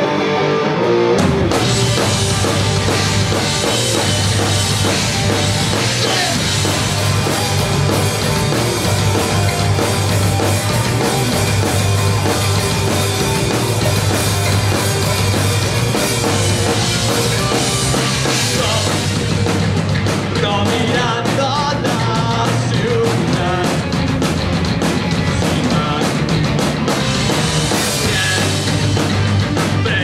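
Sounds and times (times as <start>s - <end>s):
guitar line: 0.0s - 30.0s
live rock band playing: 0.0s - 30.0s.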